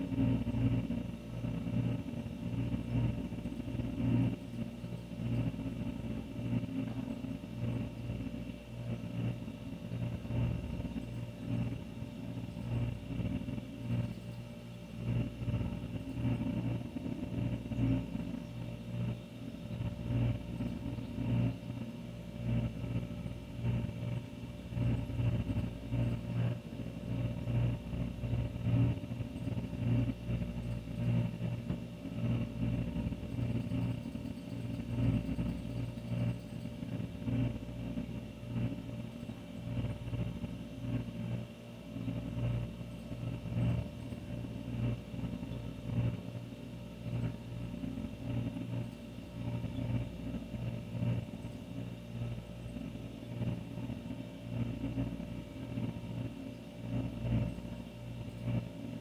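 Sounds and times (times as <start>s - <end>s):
refrigerator compressor humming: 0.0s - 59.0s.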